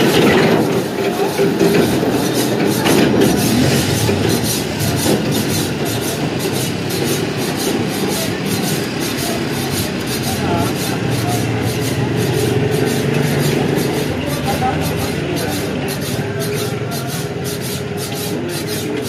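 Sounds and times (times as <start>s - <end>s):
loud rumbling: 0.0s - 19.0s.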